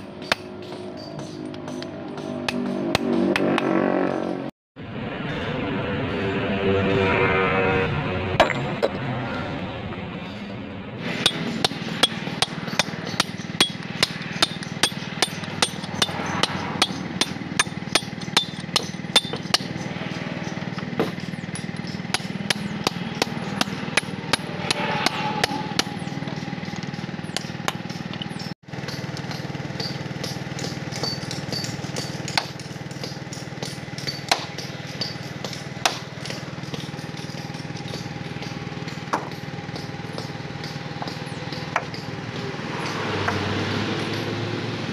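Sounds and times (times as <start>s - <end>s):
hammer striking steel chisel: 0.0s - 3.8s, 11.0s - 44.4s.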